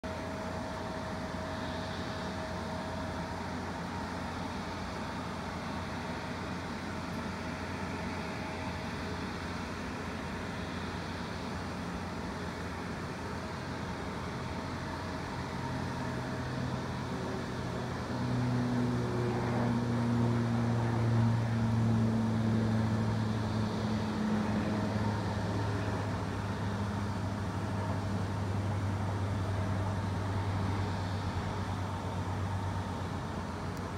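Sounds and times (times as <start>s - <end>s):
jet engines taxiing drone: 0.1s - 33.9s.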